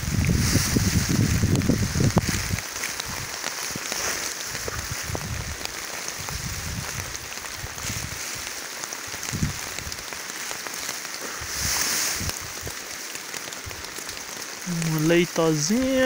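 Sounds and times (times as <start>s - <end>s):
rain falling on gravel: 0.0s - 16.0s.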